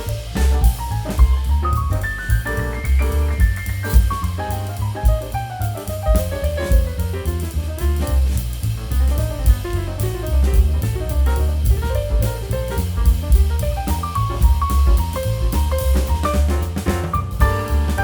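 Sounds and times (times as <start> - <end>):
upbeat jazzy instrumental music: 0.0 - 18.0.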